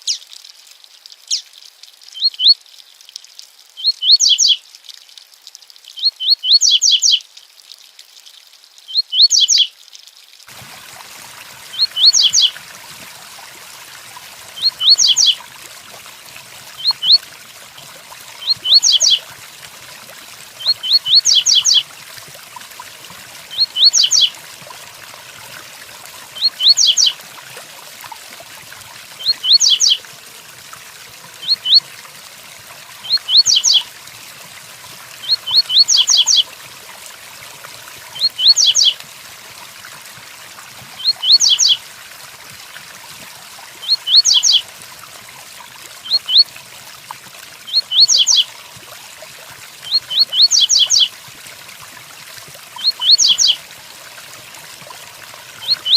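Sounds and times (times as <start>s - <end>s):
steady rain: 0.0s - 49.0s.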